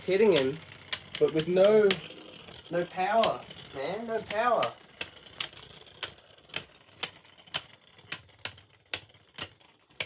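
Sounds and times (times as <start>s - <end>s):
spinning tops clacking together: 0.0s - 10.0s.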